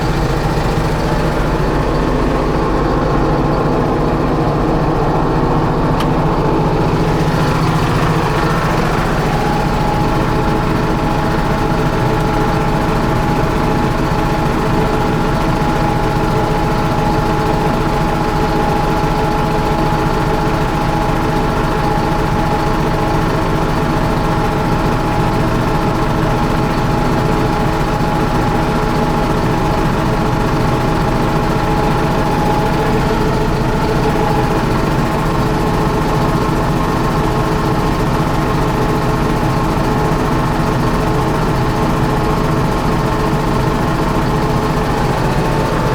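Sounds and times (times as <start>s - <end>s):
steady whine: 0.0s - 21.4s, 23.0s - 45.9s
diesel engine idling: 0.0s - 45.9s.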